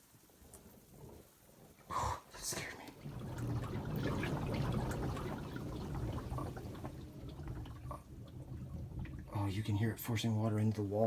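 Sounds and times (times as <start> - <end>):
water dripping: 0.0 - 11.0
floodwater gurgling and trickling: 0.2 - 11.0.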